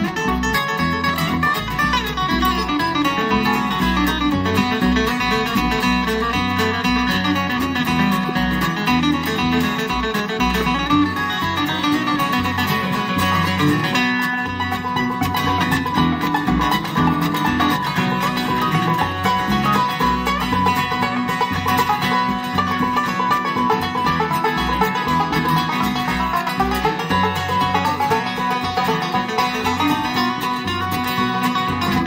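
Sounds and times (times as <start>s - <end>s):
bluegrass band playing: 0.0s - 32.0s
plucked upright bass: 0.0s - 32.0s
rolling banjo notes: 0.0s - 32.0s.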